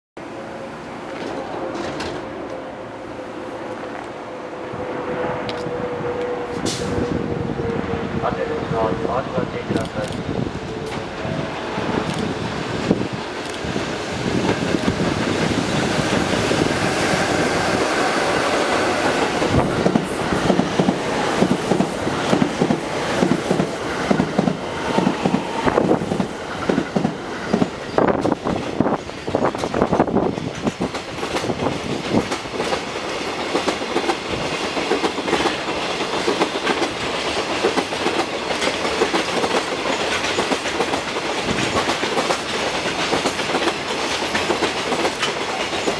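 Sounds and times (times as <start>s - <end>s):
freight train passing: 0.2s - 45.9s.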